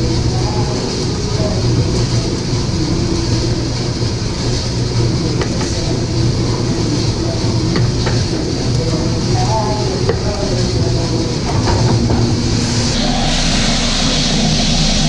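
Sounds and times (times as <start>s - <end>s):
coffee roaster humming and rushing: 0.0s - 15.0s.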